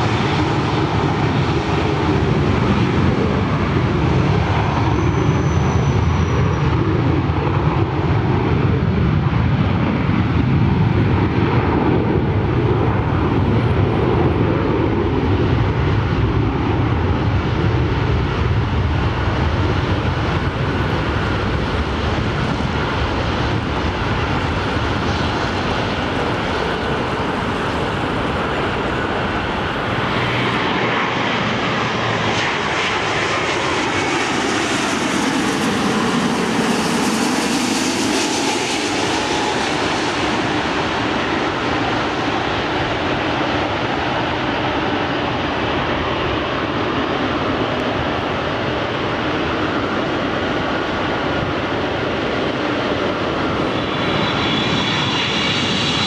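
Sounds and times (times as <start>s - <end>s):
jet engines at takeoff thrust: 0.0s - 56.0s
rising whine of passing airliner: 0.0s - 56.0s.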